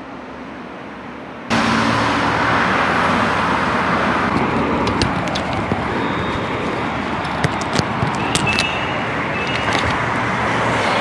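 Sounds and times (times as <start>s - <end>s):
road traffic rushing past: 0.0s - 11.0s.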